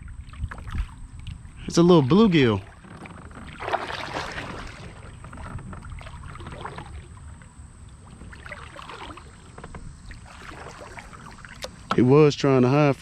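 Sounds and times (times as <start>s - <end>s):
steady low rumble: 0.0s - 13.0s
water around a hull: 0.0s - 13.0s.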